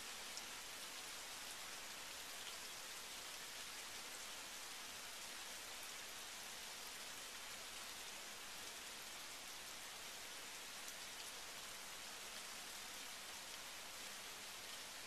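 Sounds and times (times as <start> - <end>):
rain on pavement and shrubs: 0.0 - 15.0.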